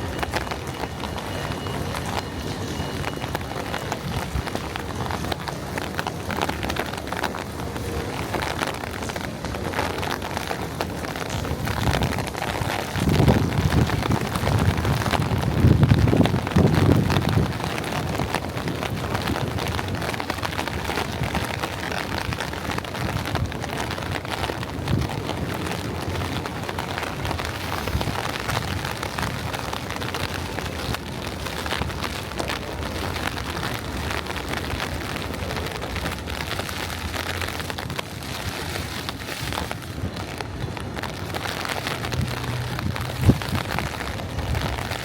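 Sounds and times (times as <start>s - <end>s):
rain pattering: 0.0s - 45.0s
wind buffeting microphone: 0.0s - 45.0s.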